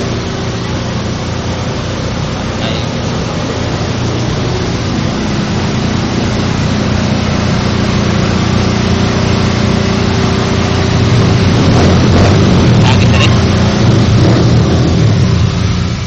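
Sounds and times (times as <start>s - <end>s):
rushing noise: 0.0s - 16.0s
vehicle engine running: 0.0s - 16.0s.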